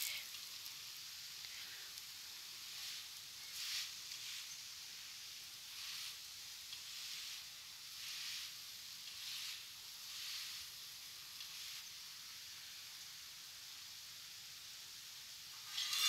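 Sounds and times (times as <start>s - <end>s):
flatbread sizzling in ghee: 0.0s - 16.0s.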